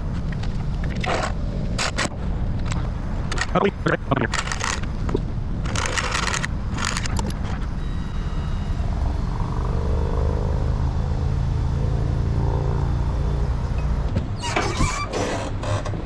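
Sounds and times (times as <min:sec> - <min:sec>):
faint hum: 0:00.0 - 0:14.7
boat motor rumbling: 0:00.0 - 0:16.0.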